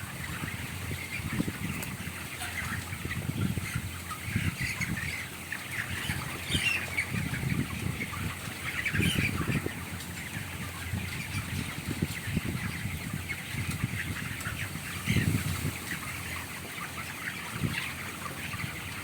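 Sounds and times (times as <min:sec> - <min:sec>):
chickens calling: 0:00.0 - 0:19.0
low rustling of flock: 0:00.0 - 0:19.0.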